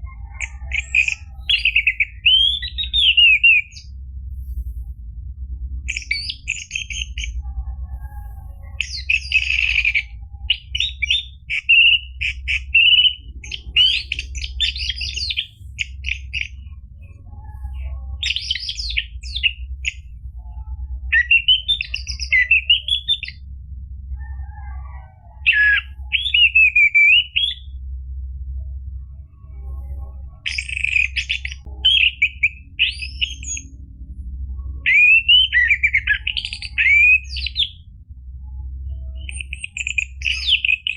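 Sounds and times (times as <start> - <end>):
steady low hum: 0.0 - 40.9
bird singing whistles and chirps: 0.1 - 4.0, 5.9 - 7.5, 8.1 - 23.4, 24.1 - 27.8, 29.6 - 33.8, 34.8 - 37.8, 38.4 - 40.9.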